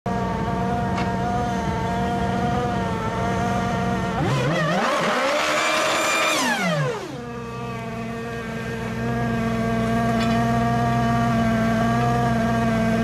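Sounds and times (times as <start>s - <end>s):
race car engine revving: 0.1s - 13.0s.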